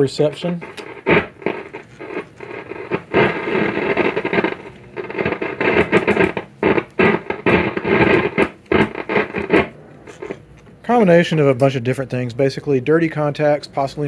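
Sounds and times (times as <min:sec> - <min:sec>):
radio static crackling: 0:00.0 - 0:14.0.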